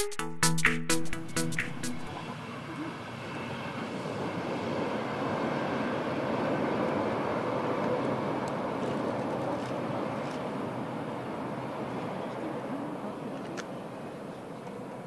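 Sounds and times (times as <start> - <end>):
train rumbling: 1.3 - 15.0.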